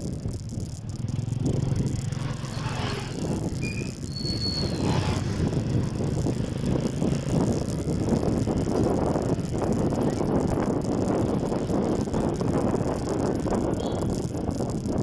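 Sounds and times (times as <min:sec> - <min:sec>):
road noise: 0:00.0 - 0:15.0
small motorcycle engine running: 0:00.0 - 0:15.0
wind noise: 0:00.0 - 0:15.0.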